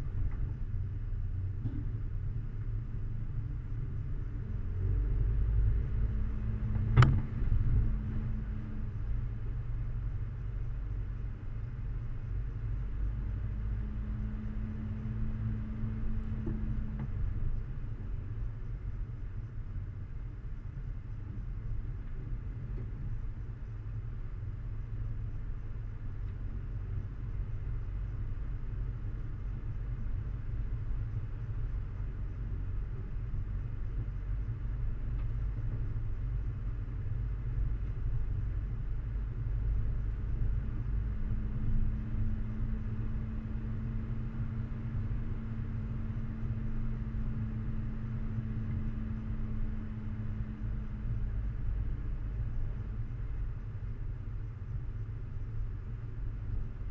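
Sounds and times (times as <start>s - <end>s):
vehicle engine rumbling: 0.0s - 56.9s.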